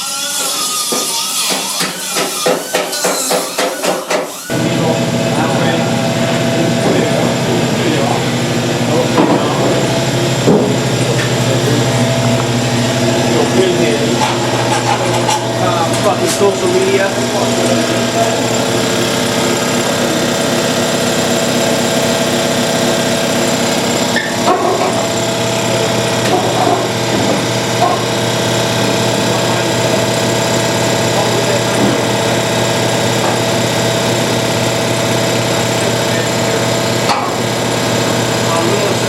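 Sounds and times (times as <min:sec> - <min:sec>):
motor whining: 0:04.4 - 0:39.0.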